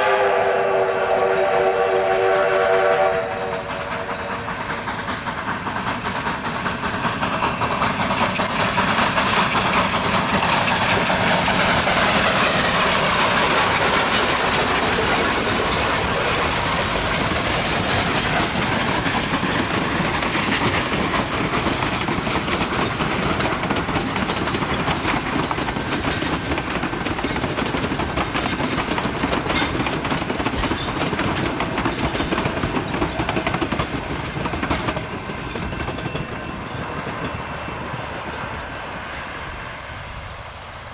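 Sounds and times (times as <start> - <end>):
train rumbling on track: 0.0 - 40.9
wheels clicking over rail joints: 3.2 - 38.5.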